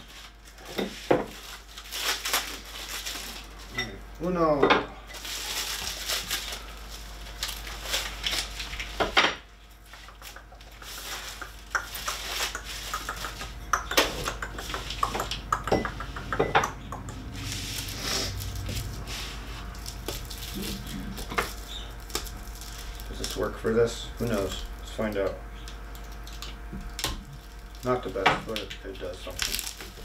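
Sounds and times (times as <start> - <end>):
plastic wrapping crinkling: 0.0 - 3.8, 5.1 - 9.0, 9.7 - 13.5, 17.3 - 30.0.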